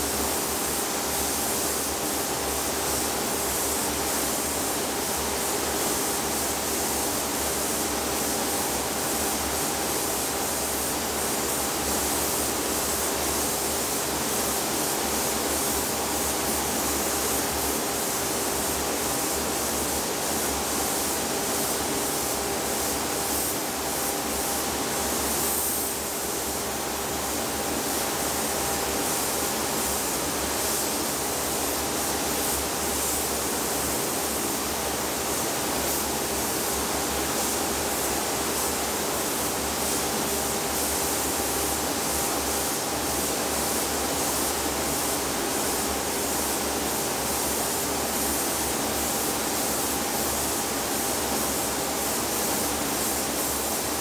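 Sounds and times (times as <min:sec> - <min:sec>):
paint spray gun hissing: 0:00.1 - 0:54.0.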